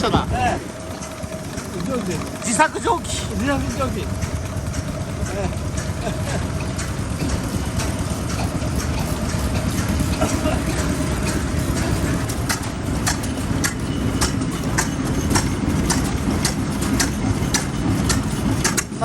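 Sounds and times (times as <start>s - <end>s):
stationary engines rumbling: 0.0s - 19.0s
wind buffeting microphone: 0.0s - 19.0s.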